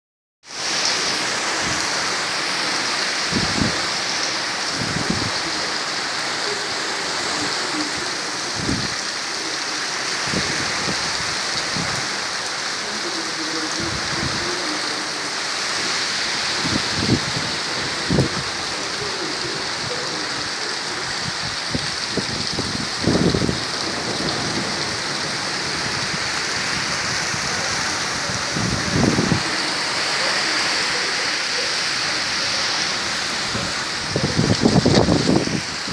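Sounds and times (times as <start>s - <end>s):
heavy rain: 0.4s - 35.9s.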